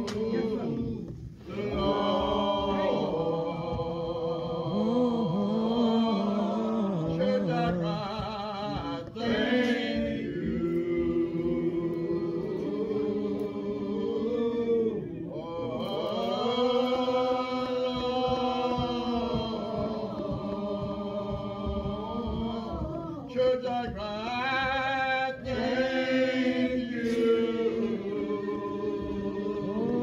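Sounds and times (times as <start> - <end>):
man singing a slow hymn: 0.0 - 11.9, 13.4 - 30.0.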